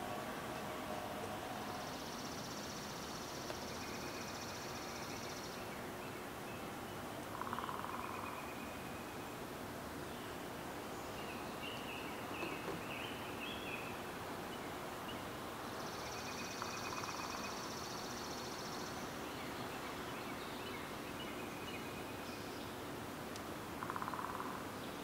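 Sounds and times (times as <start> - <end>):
steady background hiss: 0.0 - 25.0
faint high bird calls: 1.5 - 9.4, 10.2 - 22.8, 23.8 - 25.0.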